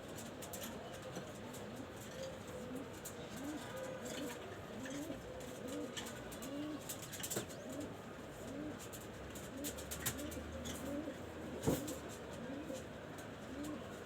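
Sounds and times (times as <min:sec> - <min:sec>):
pigeons cooing: 0:01.6 - 0:14.0.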